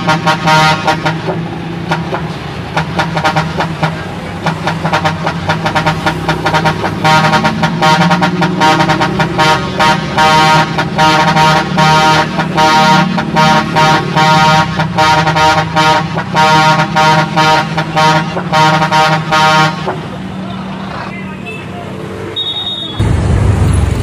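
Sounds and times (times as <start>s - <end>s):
bus horn playing a tune: 0.0s - 20.1s
bus engine running: 0.0s - 24.0s.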